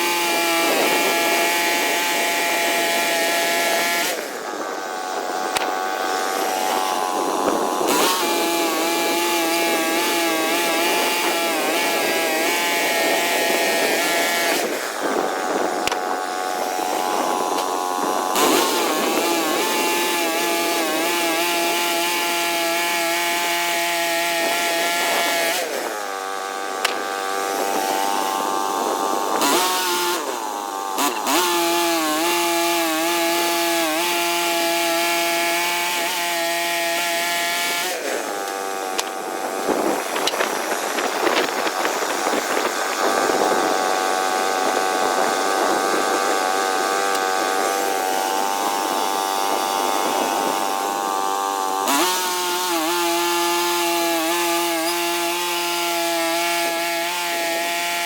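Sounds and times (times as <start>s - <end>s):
sawmill engine sawing: 0.0s - 58.0s.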